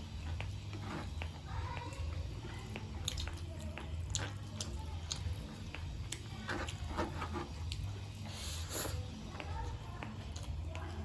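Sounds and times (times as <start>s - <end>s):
wet chewing sounds: 0.0s - 11.0s.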